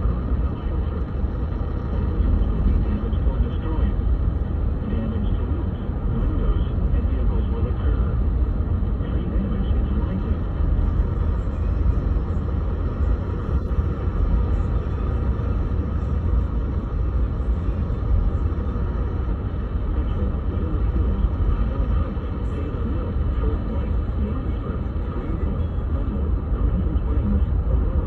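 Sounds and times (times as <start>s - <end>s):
radio static rumble and hiss: 0.0s - 28.0s.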